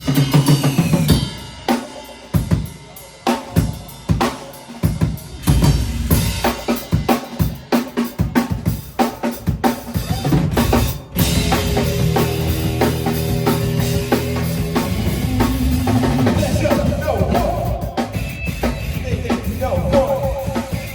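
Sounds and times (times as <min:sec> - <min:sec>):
drum kit playing: 0:00.0 - 0:20.9
rock band sustained chords: 0:00.0 - 0:20.9.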